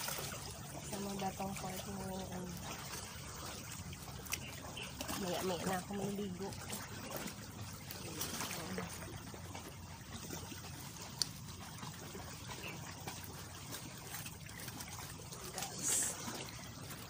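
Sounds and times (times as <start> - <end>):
seawater lapping over rocks: 0.0 - 17.0.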